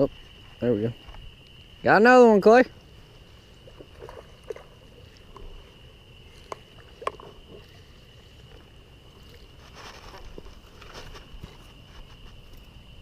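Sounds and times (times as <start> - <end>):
high insect buzz: 0.0 - 13.0.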